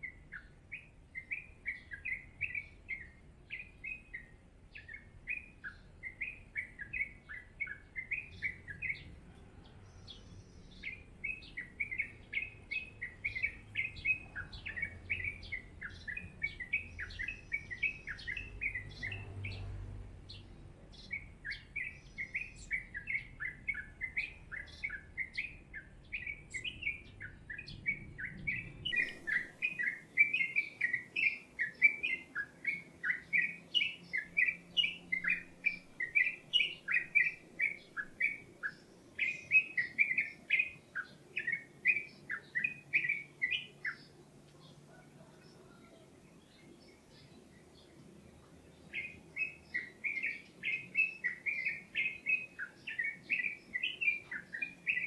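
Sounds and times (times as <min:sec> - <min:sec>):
small songbird chirping: 0:00.0 - 0:55.0.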